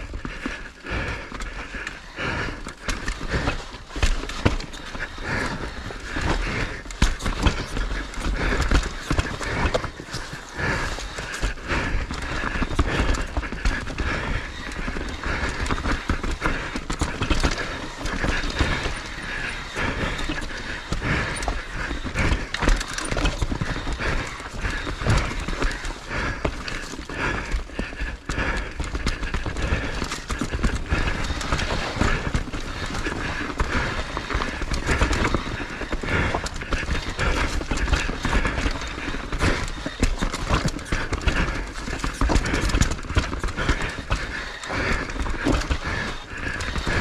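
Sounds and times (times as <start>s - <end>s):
skis scraping over snow: 0.2s - 28.7s, 29.6s - 47.0s.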